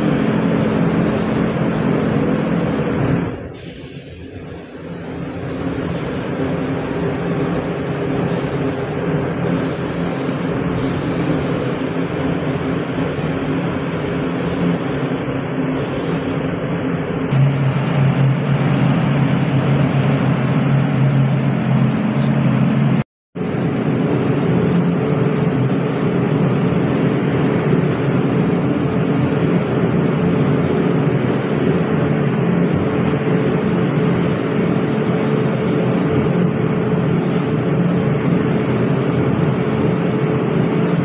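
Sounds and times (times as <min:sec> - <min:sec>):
machine humming: 0:04.6 - 0:41.0.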